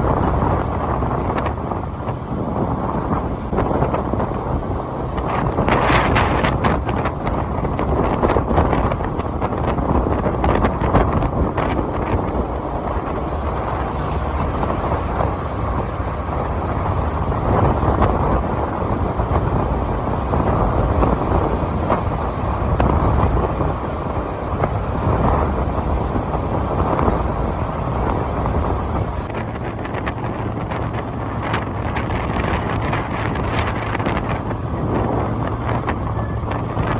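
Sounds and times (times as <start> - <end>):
motorcycle engine rumble: 0.0 - 36.9
road noise: 0.0 - 36.9
wind rushing over microphone: 0.0 - 36.9.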